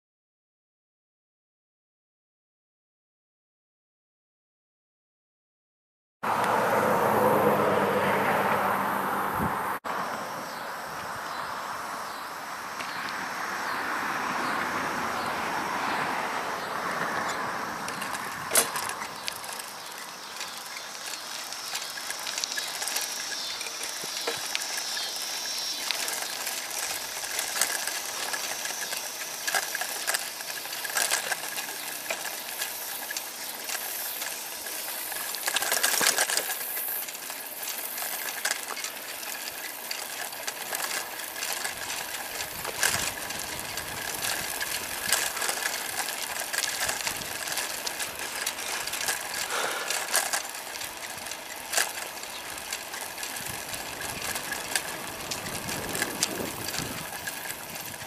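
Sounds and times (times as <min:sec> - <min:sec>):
wind and tyre noise: 0:06.2 - 0:58.0
bike ticking and rattling: 0:10.0 - 0:58.0.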